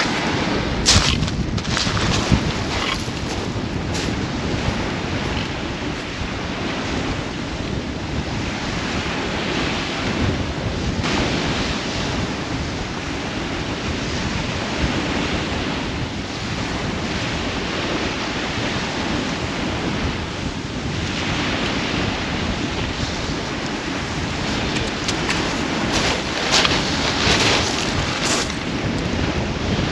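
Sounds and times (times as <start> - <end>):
waves washing onto shore: 0.0 - 29.9
wind buffeting microphone: 0.0 - 29.9.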